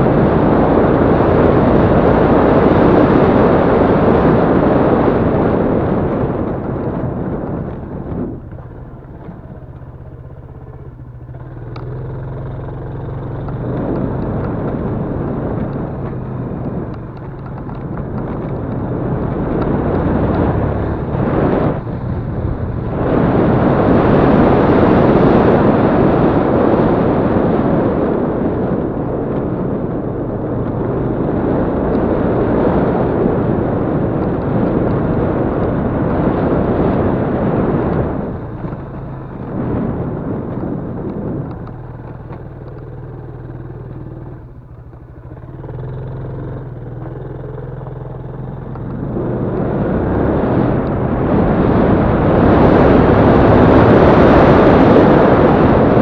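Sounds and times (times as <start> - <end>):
motorcycle engine running: 0.0 - 56.0
rushing wind noise: 0.0 - 56.0.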